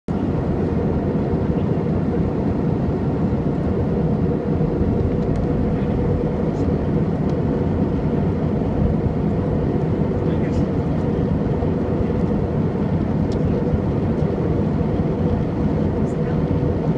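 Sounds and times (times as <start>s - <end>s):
jet engines and rushing air: 0.1s - 16.9s.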